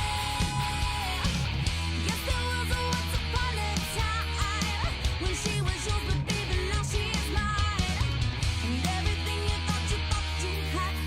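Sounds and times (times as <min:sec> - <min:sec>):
rock band playing: 0:00.0 - 0:11.0.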